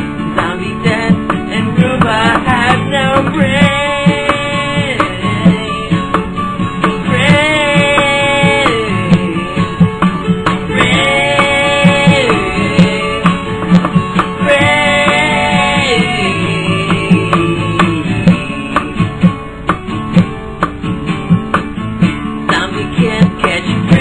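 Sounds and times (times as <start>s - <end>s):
lead guitar with sliding notes: 0.0s - 24.0s
steady drum beat: 0.0s - 24.0s.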